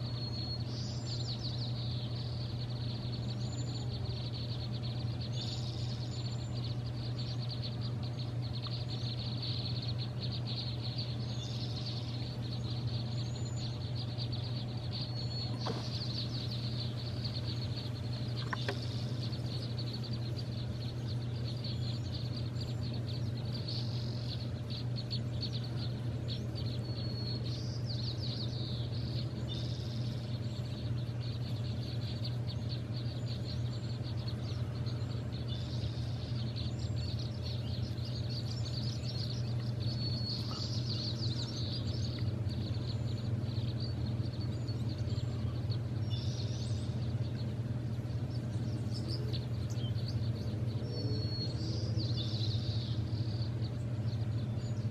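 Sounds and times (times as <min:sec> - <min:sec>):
songbirds chirping and trilling: 0:00.0 - 0:54.9
steady low hum: 0:00.0 - 0:54.9.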